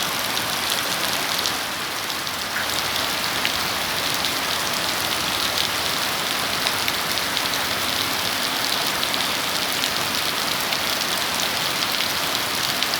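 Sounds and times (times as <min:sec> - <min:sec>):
raindrops ticking on a surface: 0:00.0 - 0:12.9
steady rain hiss: 0:00.0 - 0:12.9.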